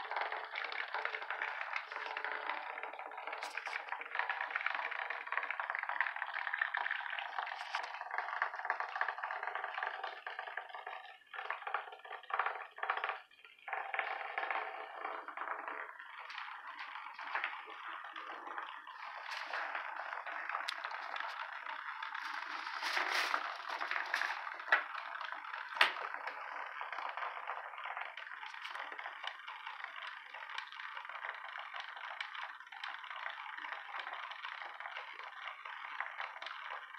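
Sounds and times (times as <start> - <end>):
vibrating toy buzzing on wood floor: 0.0 - 36.9.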